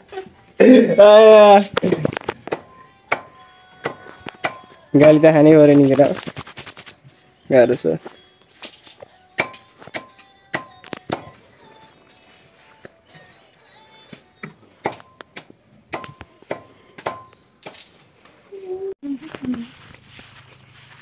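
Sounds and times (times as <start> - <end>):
faint music: 0.0 - 21.0.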